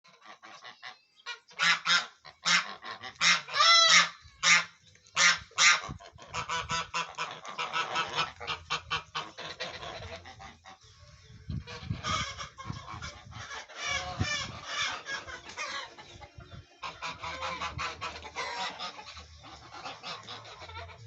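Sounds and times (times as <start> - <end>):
ducks quacking: 0.1 - 21.0.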